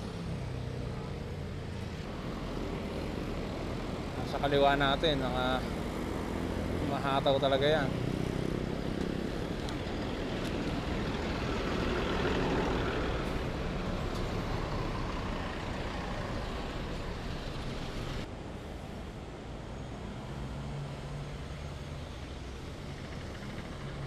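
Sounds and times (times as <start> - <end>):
road traffic rushing: 0.0 - 24.0.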